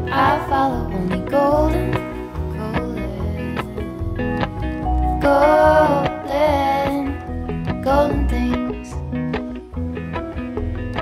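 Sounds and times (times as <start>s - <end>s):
soft song with plucked guitar: 0.0s - 11.0s.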